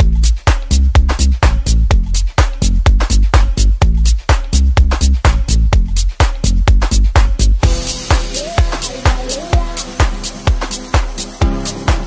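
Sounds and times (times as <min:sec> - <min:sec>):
dance-pop music: 0:00.0 - 0:12.0.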